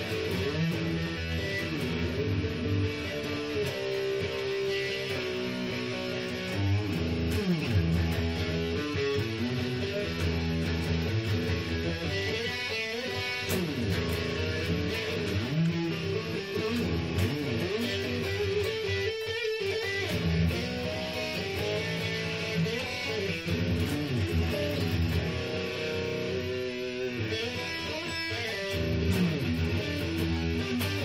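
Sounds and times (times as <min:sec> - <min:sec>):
electric guitar through amplifier: 0:00.0 - 0:31.0.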